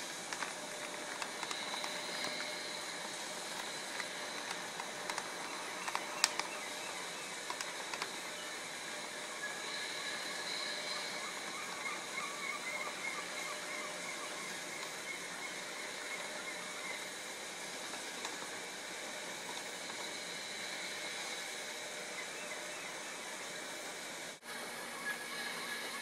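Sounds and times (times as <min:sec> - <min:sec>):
model train rolling on track: 0:00.0 - 0:26.0
steady hiss: 0:00.0 - 0:26.0.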